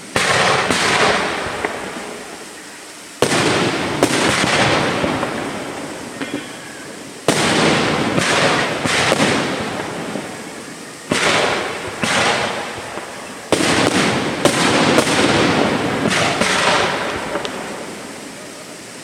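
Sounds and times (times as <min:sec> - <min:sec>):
firework bangs echoing: 0:00.0 - 0:19.0.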